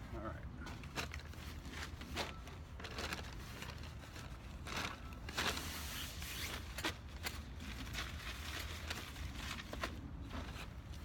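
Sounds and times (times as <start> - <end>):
rustling of tent gear: 0.1 - 11.0.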